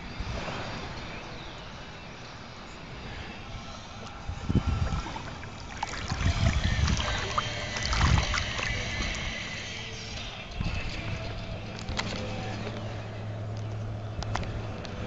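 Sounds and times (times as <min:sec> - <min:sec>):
river water splashing and sloshing: 0:00.0 - 0:15.0.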